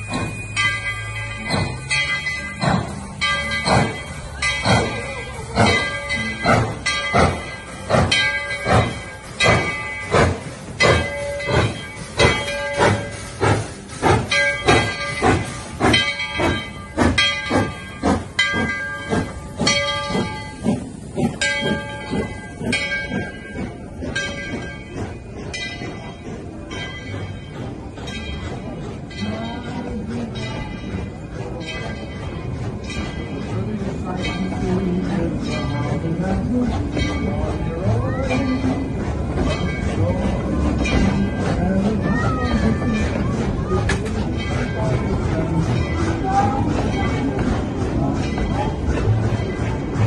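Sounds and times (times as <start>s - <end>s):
locomotive bell ringing: 0.0s - 50.0s
steam hissing: 0.0s - 50.0s.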